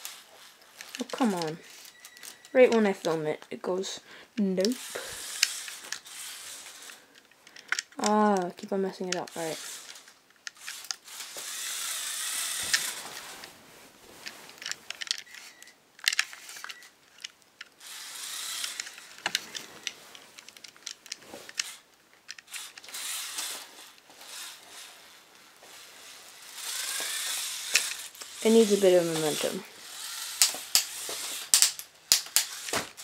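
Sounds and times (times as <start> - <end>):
electric motors whirring: 0.0 - 3.1, 4.5 - 7.2, 7.8 - 13.3, 14.9 - 16.9, 17.8 - 20.0, 21.5 - 33.0.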